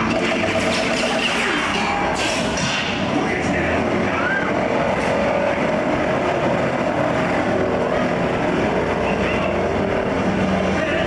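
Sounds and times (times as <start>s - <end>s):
propeller airplane engines: 0.0s - 11.0s.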